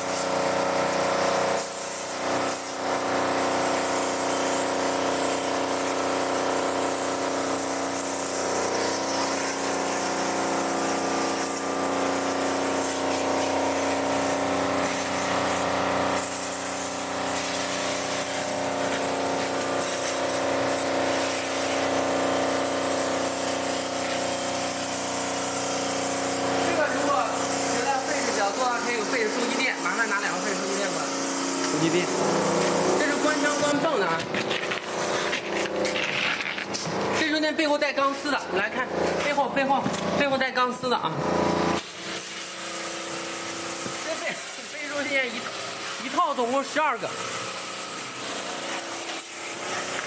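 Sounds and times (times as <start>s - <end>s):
hissing water spray: 0.0s - 37.2s, 41.4s - 50.0s
pressure pump running: 0.0s - 50.0s.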